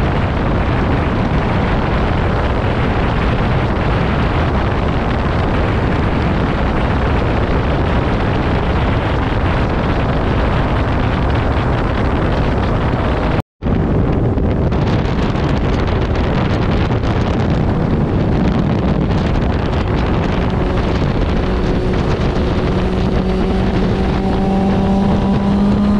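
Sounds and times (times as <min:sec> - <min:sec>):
motorcycle running: 0:00.0 - 0:25.9
wind rush over microphone: 0:00.0 - 0:25.9.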